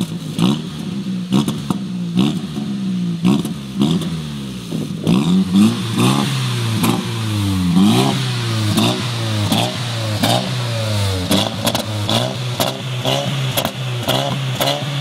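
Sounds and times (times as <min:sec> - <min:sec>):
car engine revving: 0:00.0 - 0:15.0
exhaust crack: 0:00.0 - 0:15.0.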